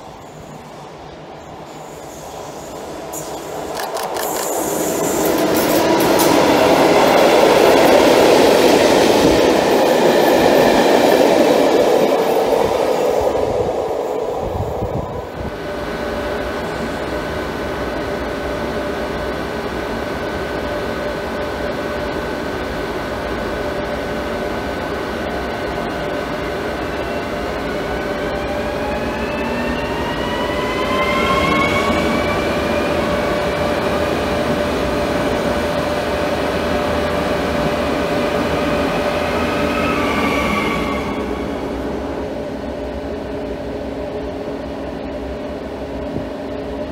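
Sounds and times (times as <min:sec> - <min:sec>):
electric train humming: 0:00.0 - 0:46.9
freight train rolling past: 0:00.0 - 0:46.9.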